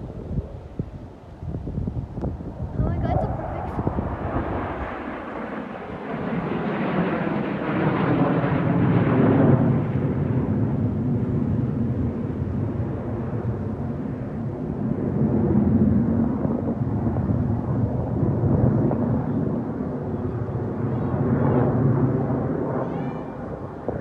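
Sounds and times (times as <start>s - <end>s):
fighter jet roar passing: 2.5s - 24.0s.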